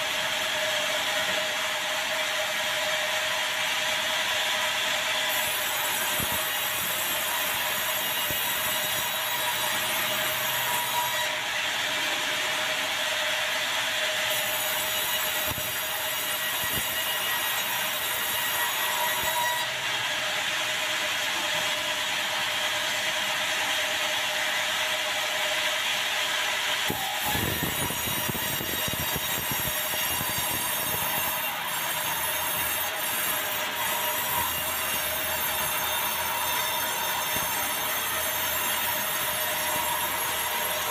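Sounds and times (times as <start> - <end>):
sawmill headsaw cutting log: 0.0 - 40.9.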